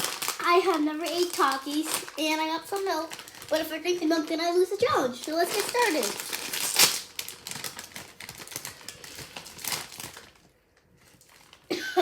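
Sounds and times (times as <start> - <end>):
foil bag crinkling: 0.0 - 12.0.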